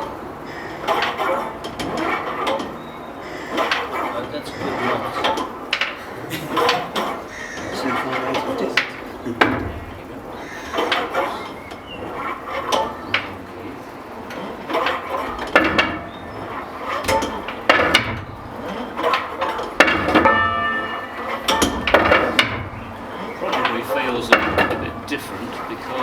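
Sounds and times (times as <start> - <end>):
bell fittings clunking and knocking: 0.0 - 26.0.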